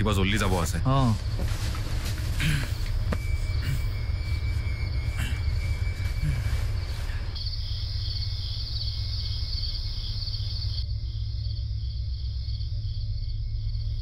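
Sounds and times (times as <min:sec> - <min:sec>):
crickets chirping: 0:00.0 - 0:14.0
low steady hum: 0:00.0 - 0:14.0.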